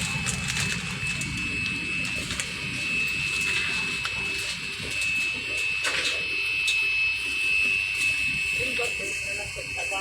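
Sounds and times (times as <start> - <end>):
airliner cabin hum: 0.0 - 10.0
high whine: 0.0 - 10.0.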